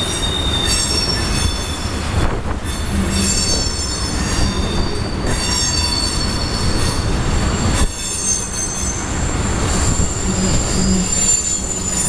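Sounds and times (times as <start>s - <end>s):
train wheels squealing on curve: 0.0s - 12.0s.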